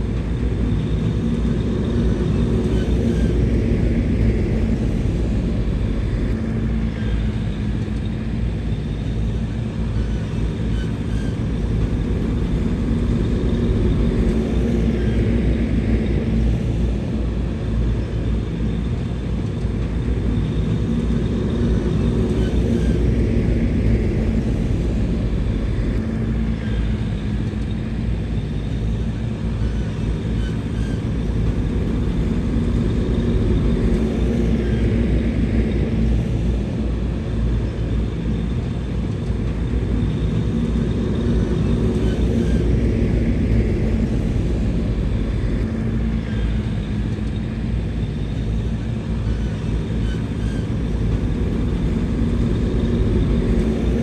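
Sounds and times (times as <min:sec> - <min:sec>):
heavy machinery diesel engine running: 0:00.0 - 0:54.0.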